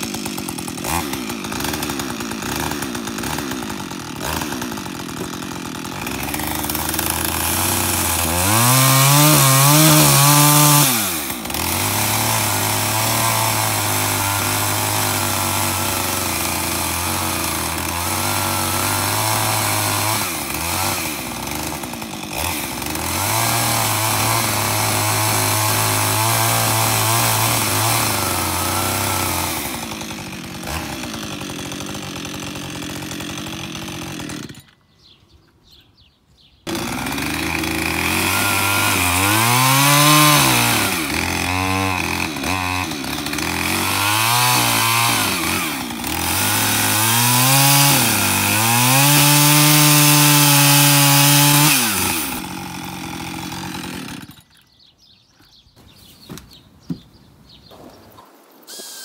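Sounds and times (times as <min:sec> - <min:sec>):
chainsaw cutting log: 0:00.0 - 0:34.8, 0:36.6 - 0:54.7, 0:58.7 - 0:59.0.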